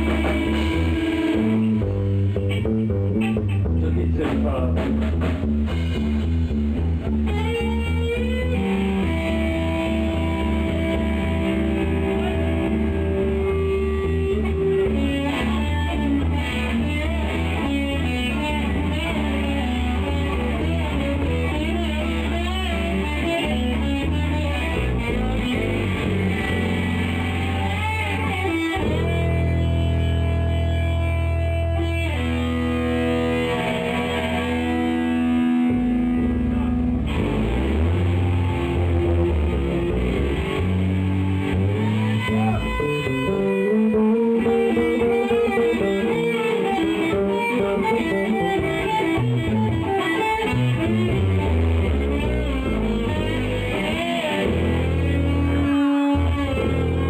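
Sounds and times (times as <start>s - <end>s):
bass guitar: 0.0s - 57.0s
drum kit: 0.0s - 57.0s
electric guitar lead notes: 0.0s - 57.0s.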